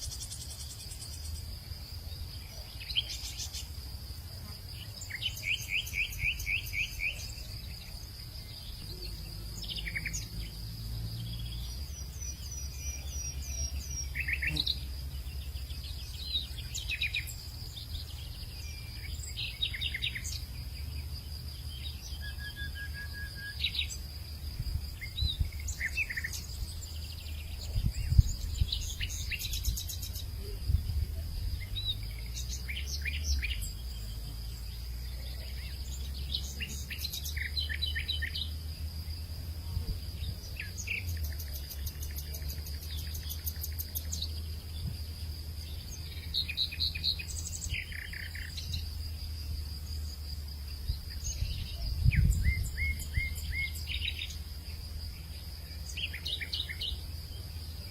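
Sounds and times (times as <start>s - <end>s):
wild birds chirping: 0.0s - 57.9s.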